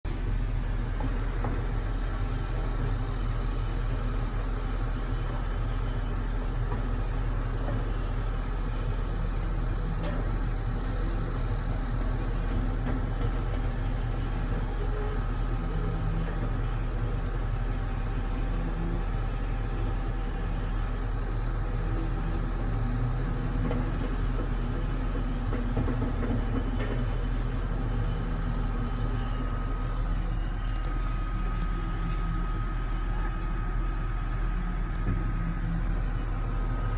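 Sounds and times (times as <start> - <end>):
engine low drone: 0.0 - 36.9.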